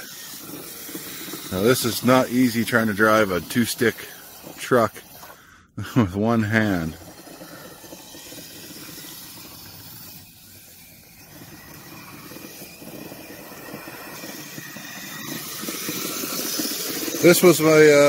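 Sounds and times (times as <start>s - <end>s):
toy vehicle tracks whirring in snow: 0.0s - 5.5s, 6.3s - 18.0s.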